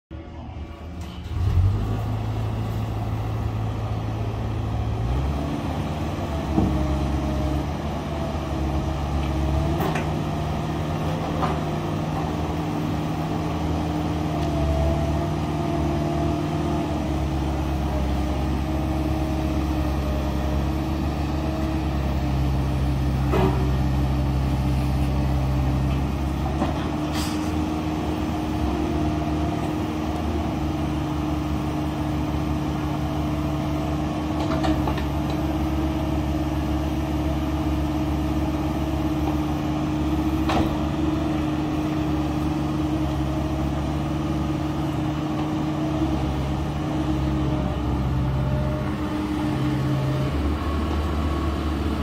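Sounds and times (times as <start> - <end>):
excavator diesel engine running: 0.1 - 52.0.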